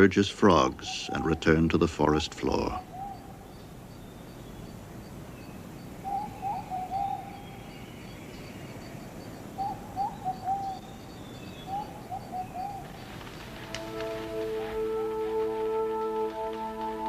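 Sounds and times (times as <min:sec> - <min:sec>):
bird whistling low notes: 0:00.0 - 0:17.0.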